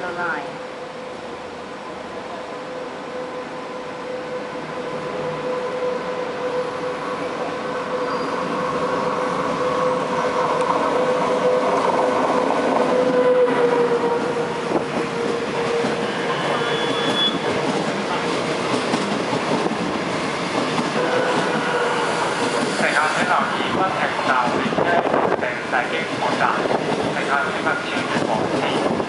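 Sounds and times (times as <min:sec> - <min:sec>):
electric locomotive whine: 0:00.0 - 0:29.0.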